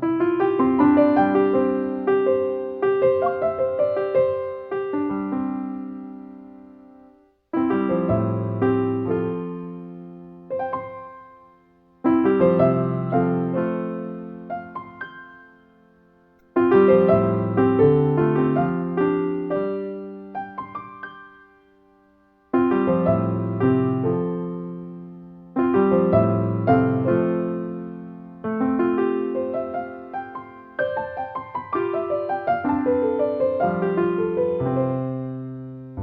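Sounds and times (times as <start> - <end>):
gentle solo piano: 0.0 - 36.0.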